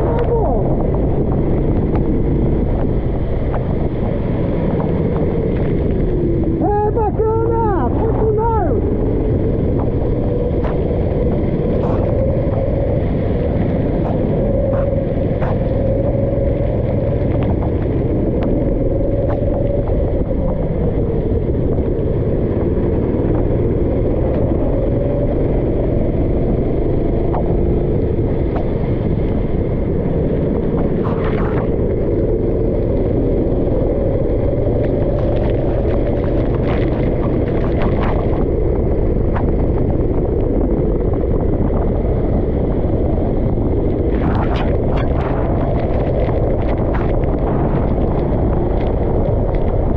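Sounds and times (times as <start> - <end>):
go-kart engine running: 0.0 - 49.9
heavy low rumble: 0.0 - 49.9.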